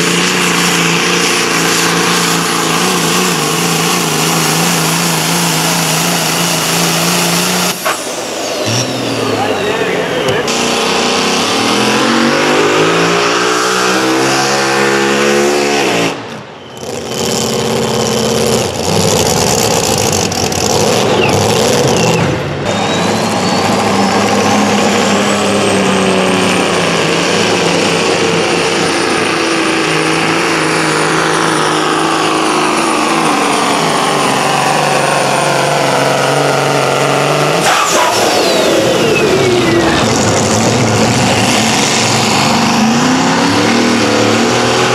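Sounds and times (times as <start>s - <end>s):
vehicle engine at full throttle: 0.0s - 44.9s.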